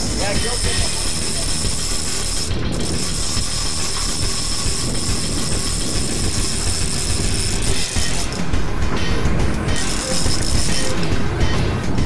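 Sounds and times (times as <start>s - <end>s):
fishing reel ratcheting: 0.0s - 8.4s, 9.7s - 11.1s.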